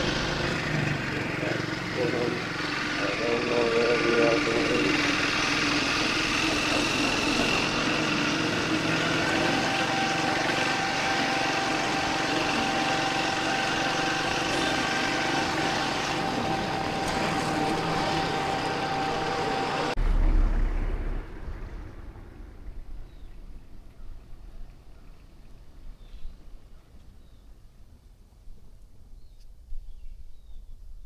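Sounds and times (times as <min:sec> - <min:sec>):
motorcycle engine running: 0:00.0 - 0:25.2
steady whine: 0:00.0 - 0:27.1.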